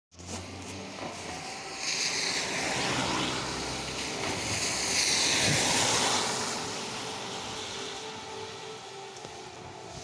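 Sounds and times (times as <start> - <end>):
car tyres hissing on wet road: 0.2 - 10.0.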